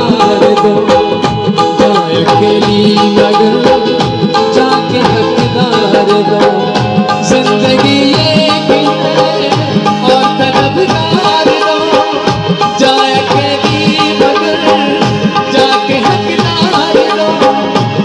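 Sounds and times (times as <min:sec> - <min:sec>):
tabla drumming: 0:00.0 - 0:18.0.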